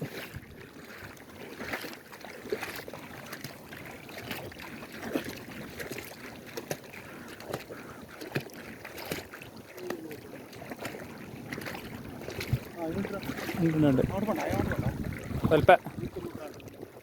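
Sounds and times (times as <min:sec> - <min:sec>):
water lapping and splashing: 0:00.0 - 0:17.0.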